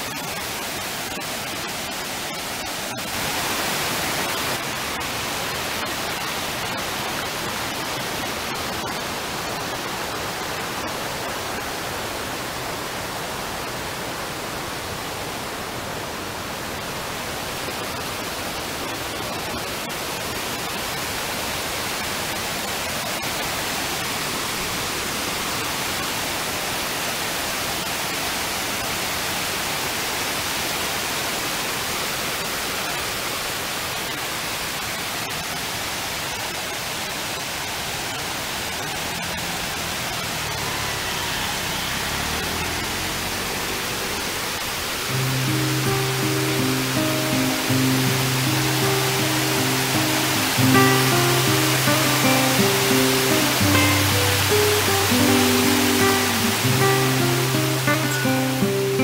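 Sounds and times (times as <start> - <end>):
water cascading over rocks: 0.0 - 59.0.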